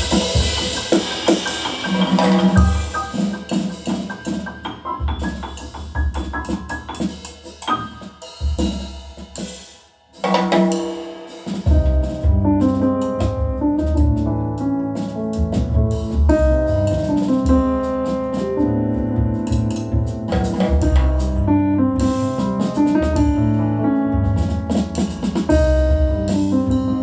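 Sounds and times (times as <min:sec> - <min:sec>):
jazz piano trio over loudspeakers: 0:00.0 - 0:09.5, 0:10.2 - 0:27.0.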